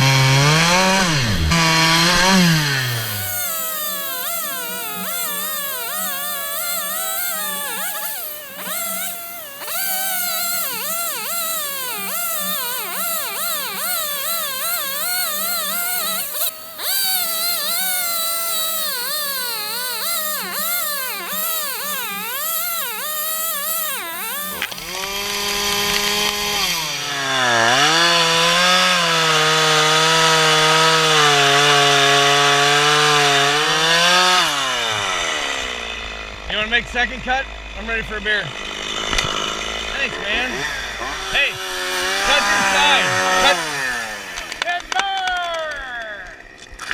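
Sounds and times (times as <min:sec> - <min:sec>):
chainsaw cutting wood: 0:00.0 - 0:46.9
louder chainsaw bogging into cut: 0:00.0 - 0:46.9.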